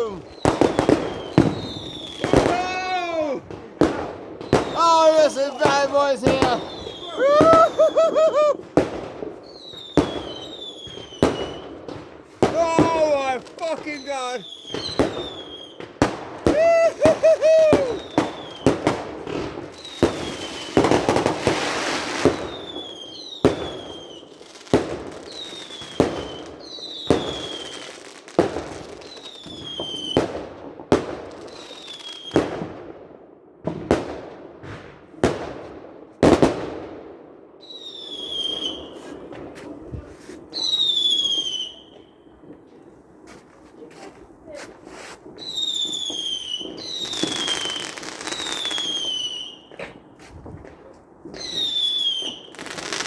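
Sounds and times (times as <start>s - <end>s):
fireworks crackling: 0.0s - 32.5s, 38.0s - 53.0s
fireworks bangs: 0.0s - 32.8s, 38.0s - 53.0s.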